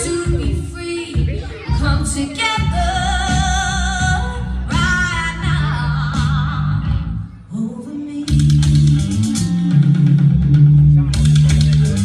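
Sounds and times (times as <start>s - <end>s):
musical accompaniment: 0.0s - 12.0s.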